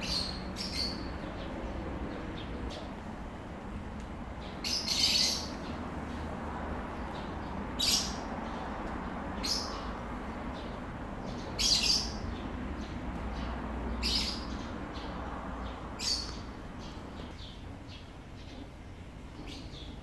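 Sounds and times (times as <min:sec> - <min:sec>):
birds chirping harshly: 0:00.0 - 0:20.0.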